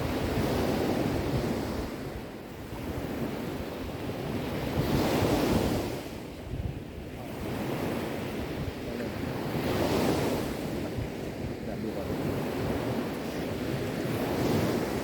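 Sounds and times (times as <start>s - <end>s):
sea waves breaking on shore: 0.0s - 15.0s
wind rumble on microphone: 0.0s - 15.0s.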